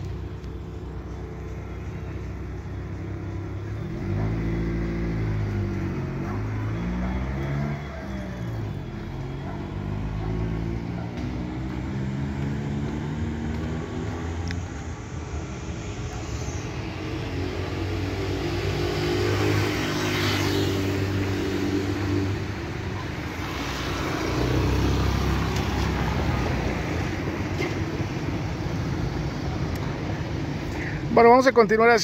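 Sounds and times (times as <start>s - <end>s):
vehicles passing on street: 0.0s - 32.0s.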